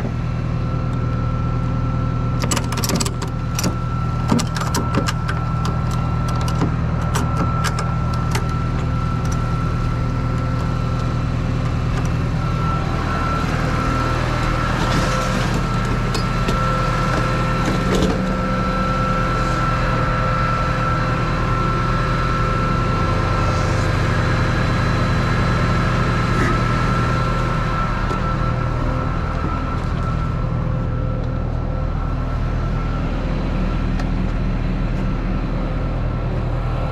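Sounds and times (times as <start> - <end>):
high-pitched whine: 0.0 - 36.9
truck engine idling: 0.0 - 36.9.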